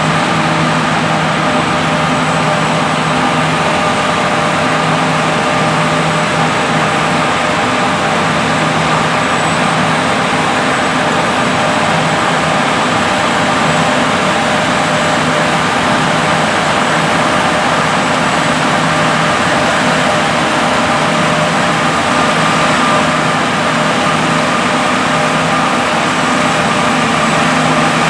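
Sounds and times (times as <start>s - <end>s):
diesel farm machinery running: 0.0s - 28.0s.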